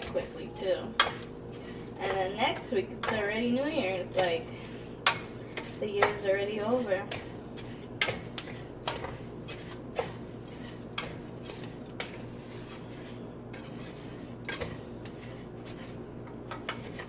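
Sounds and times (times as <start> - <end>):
spoon scraping a pan: 0.0 - 17.0.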